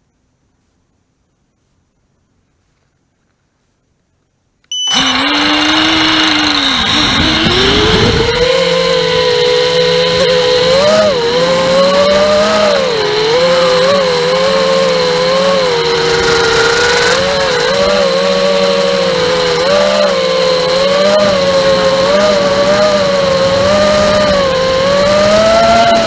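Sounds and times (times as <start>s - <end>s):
quadcopter motors whining: 4.7s - 26.0s.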